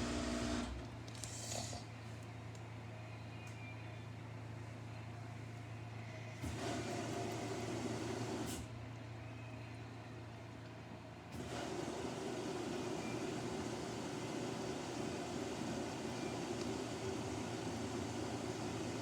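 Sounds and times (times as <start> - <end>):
washing machine hum: 0.0 - 2.2, 4.6 - 9.1, 10.2 - 19.0.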